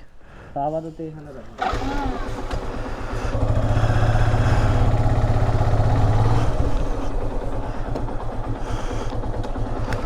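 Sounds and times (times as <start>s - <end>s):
motorcycle engine low revs: 1.4s - 10.0s.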